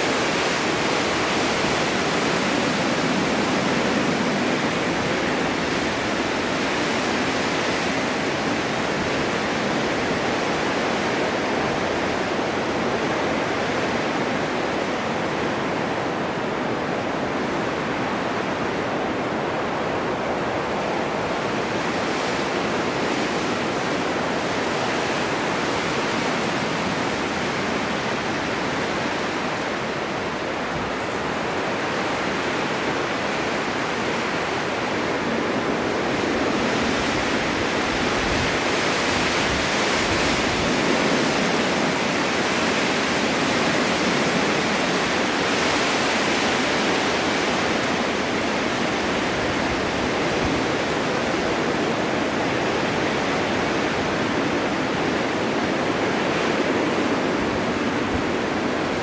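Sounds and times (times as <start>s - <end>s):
strong wind roaring: 0.0s - 59.0s.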